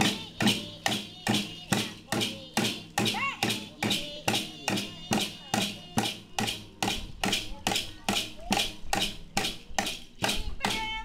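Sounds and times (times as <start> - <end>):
music with percussive beat: 0.0 - 11.0.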